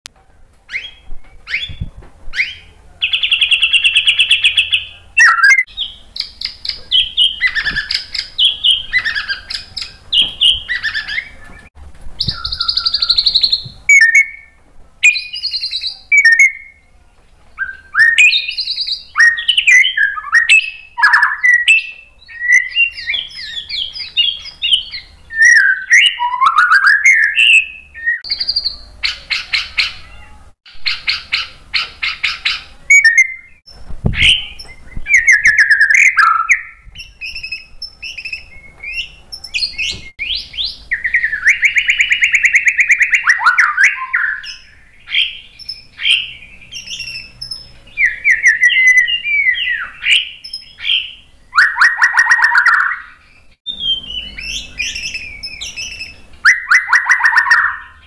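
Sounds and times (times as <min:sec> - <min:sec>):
bird singing whistled phrases: 0:00.7 - 0:16.9, 0:17.6 - 0:30.1, 0:32.1 - 0:33.6, 0:34.2 - 0:58.0.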